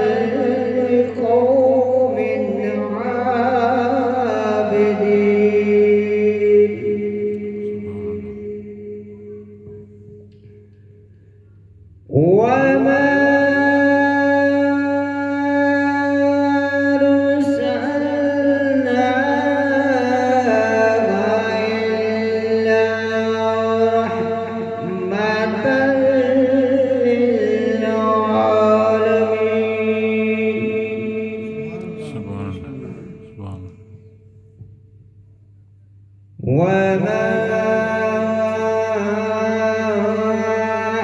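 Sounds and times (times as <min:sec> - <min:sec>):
man chanting into microphone: 0:00.0 - 0:10.3, 0:12.1 - 0:34.3, 0:36.4 - 0:41.0.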